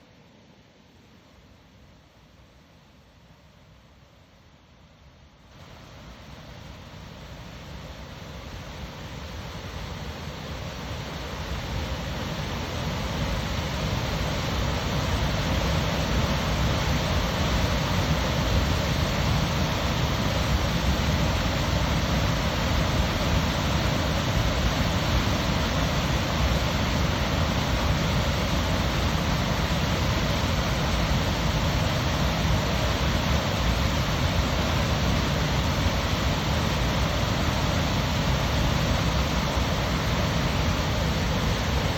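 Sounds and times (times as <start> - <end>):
waterfall roaring: 6.8 - 41.9.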